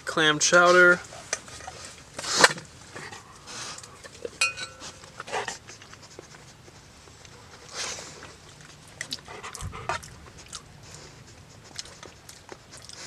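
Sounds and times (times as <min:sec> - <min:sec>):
eating sounds: 0:00.5 - 0:13.0.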